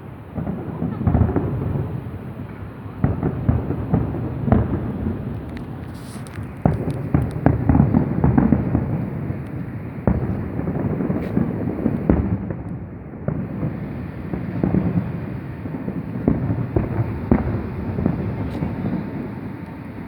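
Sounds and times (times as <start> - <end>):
continuous low rumble: 0.0 - 20.0
fireworks bangs: 0.0 - 20.0.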